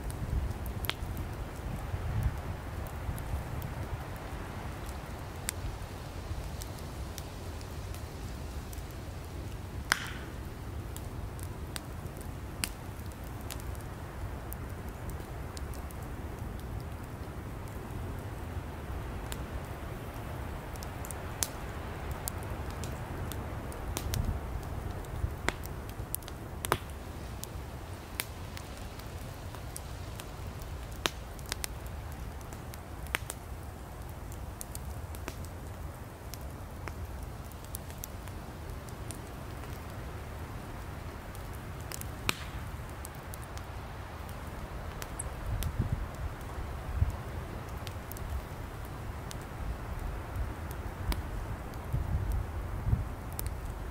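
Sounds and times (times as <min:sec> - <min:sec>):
firewood crackling and popping: 0:00.0 - 0:53.9
low rush of flame: 0:00.0 - 0:53.9.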